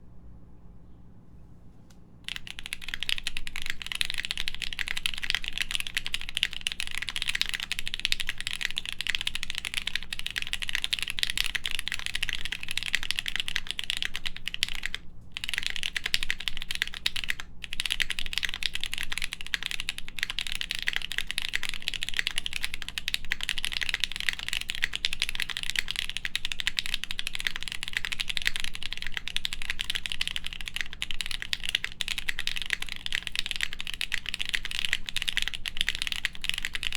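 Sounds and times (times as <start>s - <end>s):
fast mechanical keyboard typing: 2.3s - 36.9s.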